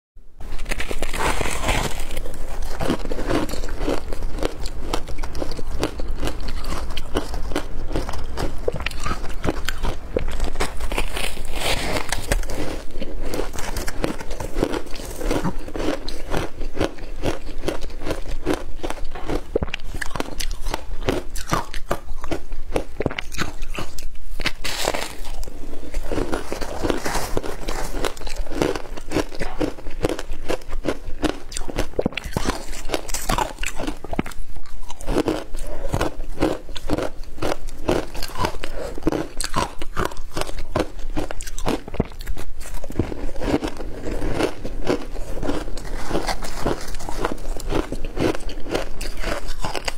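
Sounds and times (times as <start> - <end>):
crunching ice being chewed: 0.5 - 49.9.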